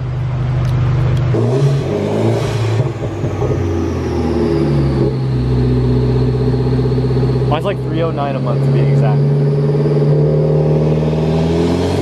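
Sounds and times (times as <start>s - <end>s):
car engine revving and idling: 0.0s - 12.0s
high whine falling in pitch: 2.4s - 12.0s.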